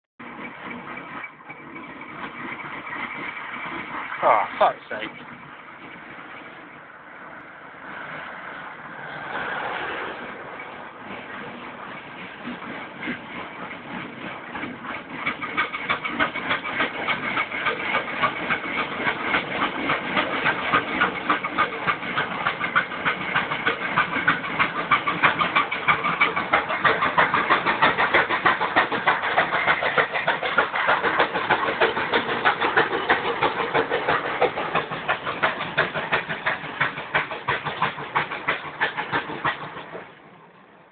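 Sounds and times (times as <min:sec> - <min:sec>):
steam engine exhaust chuffing: 0:00.2 - 0:40.9.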